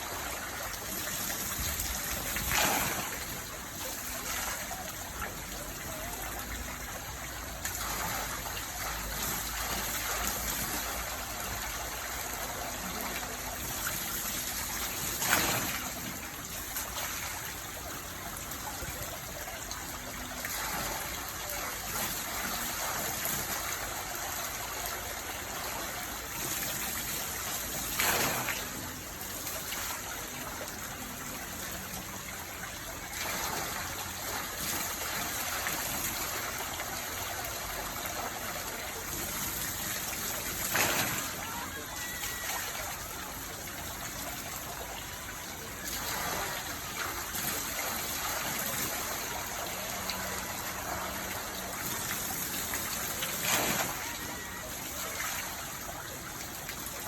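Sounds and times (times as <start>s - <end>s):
water running and trickling: 0.0s - 57.0s.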